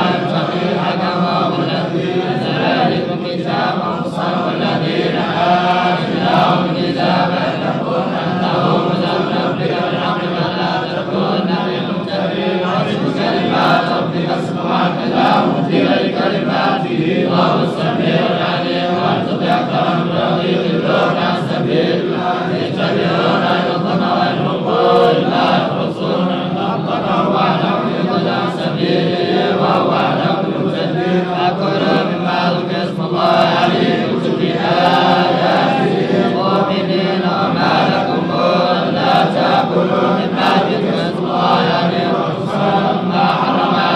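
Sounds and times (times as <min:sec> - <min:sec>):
person chanting recitation: 0:00.0 - 0:43.9.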